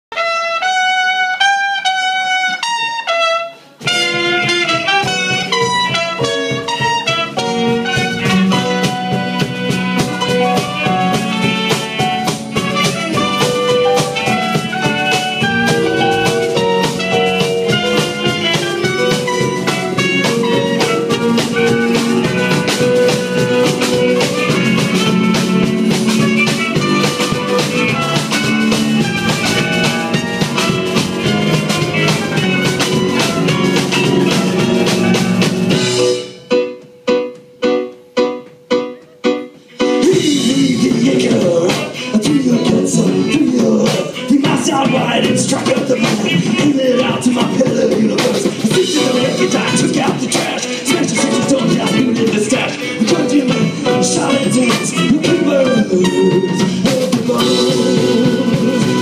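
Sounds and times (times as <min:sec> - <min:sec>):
drum kit: 0:00.1 - 0:59.0
live band playing: 0:00.1 - 0:59.0
trumpet melody: 0:00.1 - 0:59.0.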